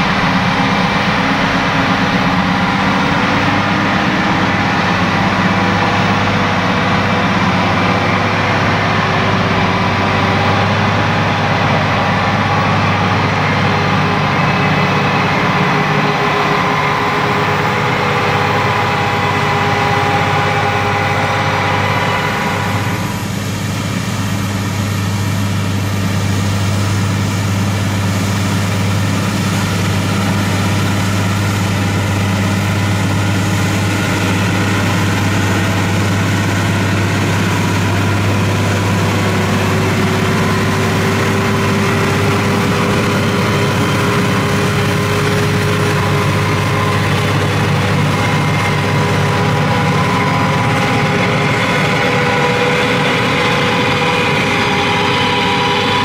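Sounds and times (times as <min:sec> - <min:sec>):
rotary harrow churning soil: 0:00.0 - 0:56.0
tractor engine running under load: 0:00.0 - 0:56.0.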